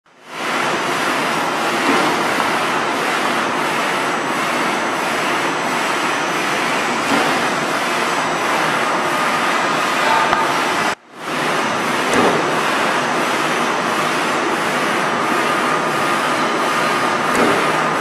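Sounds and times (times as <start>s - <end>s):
production line machinery running: 0.1s - 18.0s.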